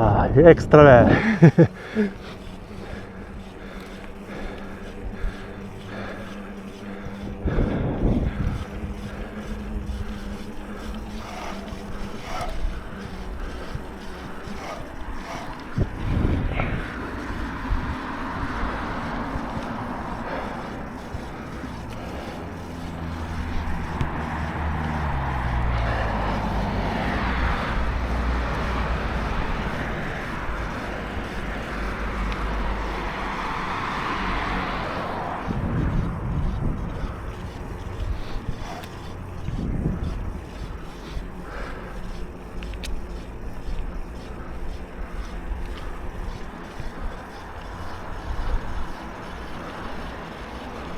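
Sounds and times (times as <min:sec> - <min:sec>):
bike tyres rumbling and rattling: 0:00.0 - 0:50.9
wind buffeting microphone: 0:00.0 - 0:50.9.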